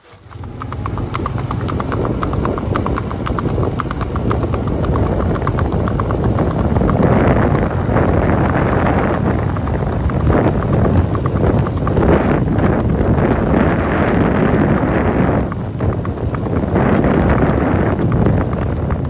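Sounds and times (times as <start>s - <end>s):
horse hooves clip-clopping on pavement: 0.0s - 19.0s
low rumble: 0.4s - 19.0s.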